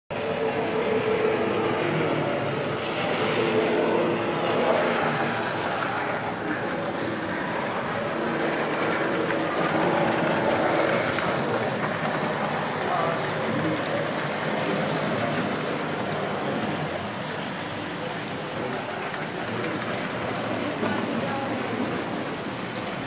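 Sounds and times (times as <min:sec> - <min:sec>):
model train wheels on rail: 0:00.4 - 0:23.0.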